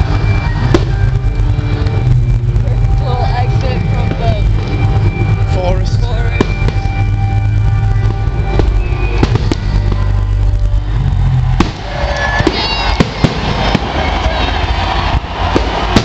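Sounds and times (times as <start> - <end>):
fireworks bangs: 0.0 - 16.0
fireworks crackling: 0.0 - 16.0
music with heavy bass: 0.0 - 16.0.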